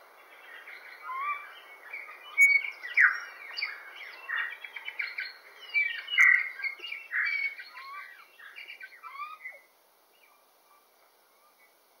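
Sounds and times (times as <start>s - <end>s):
songbirds chirping and singing: 0.1s - 11.8s.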